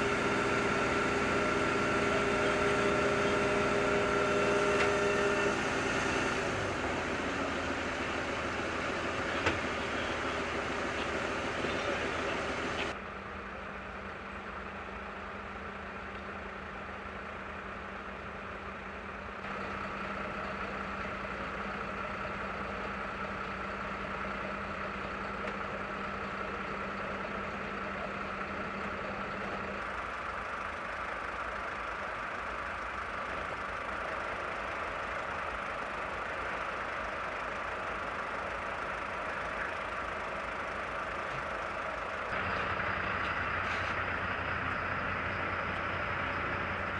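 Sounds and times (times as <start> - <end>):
diesel engines idling: 0.0 - 46.9.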